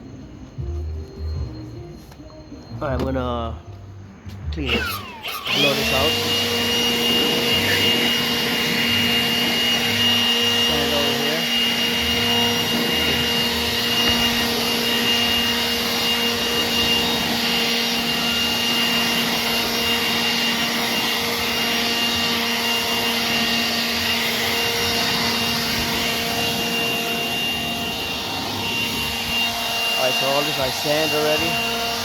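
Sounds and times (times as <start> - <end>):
electric sander on metal: 4.5 - 32.0.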